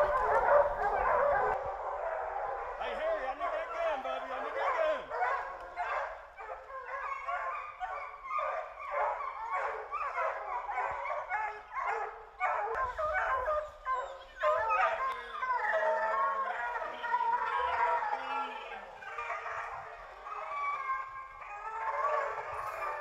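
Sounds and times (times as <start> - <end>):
hounds baying and barking: 0.0 - 23.0.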